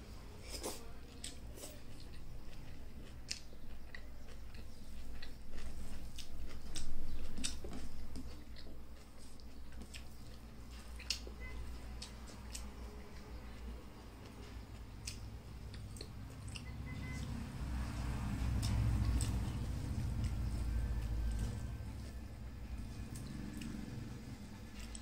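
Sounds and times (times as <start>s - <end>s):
chewing and wet mouth clicks: 0.6s - 13.6s, 14.2s - 17.4s, 18.5s - 21.6s, 23.1s - 24.0s, 24.7s - 25.0s.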